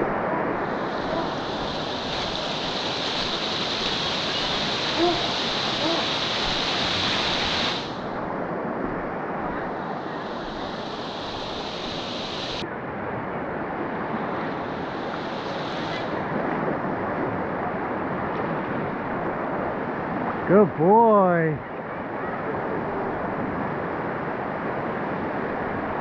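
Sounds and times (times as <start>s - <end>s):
swift river current rushing: 0.0s - 26.0s.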